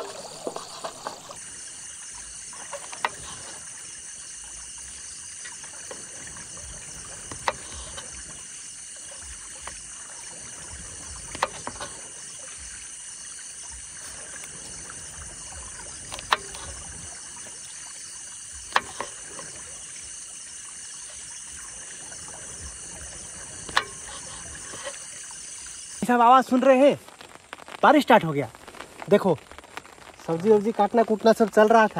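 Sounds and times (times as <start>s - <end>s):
creek water flowing: 0.0s - 31.9s
insects chirring: 0.0s - 31.9s.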